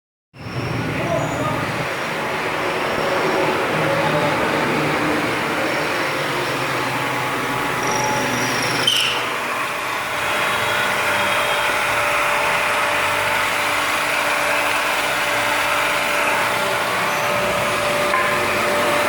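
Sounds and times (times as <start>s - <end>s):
drilling machine motor whining: 0.5s - 19.0s.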